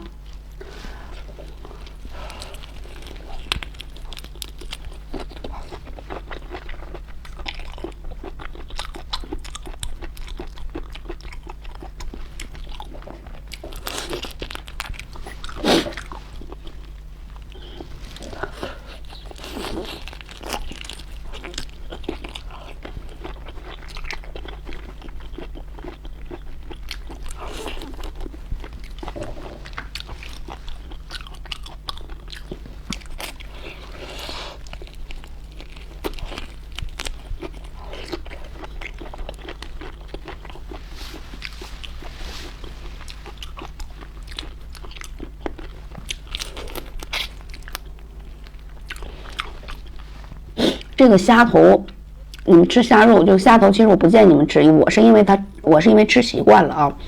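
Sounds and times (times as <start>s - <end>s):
crunching and chewing: 0.0s - 51.0s, 51.9s - 52.5s
steady low hum: 0.0s - 57.0s.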